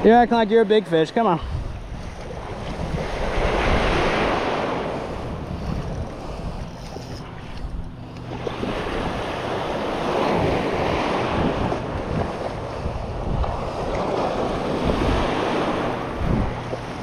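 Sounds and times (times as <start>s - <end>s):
waves washing in shallows: 0.0s - 17.0s
wind buffeting microphone: 0.0s - 17.0s.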